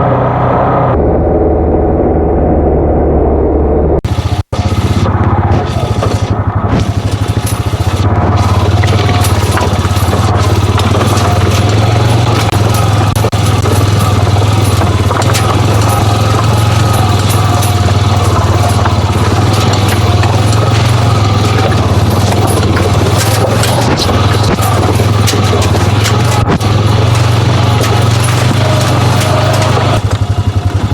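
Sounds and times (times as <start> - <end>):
utility vehicle engine running: 0.0 - 30.9
rattle from the ride: 4.0 - 30.9.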